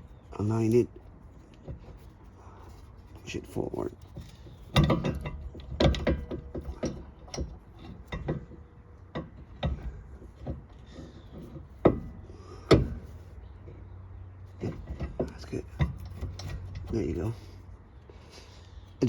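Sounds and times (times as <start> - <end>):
metal knocks and scraping: 0.0 - 17.7.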